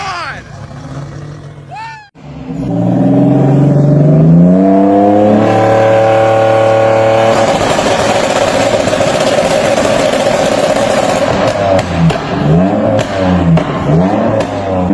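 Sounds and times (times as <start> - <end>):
car engine revving: 0.5 - 14.9.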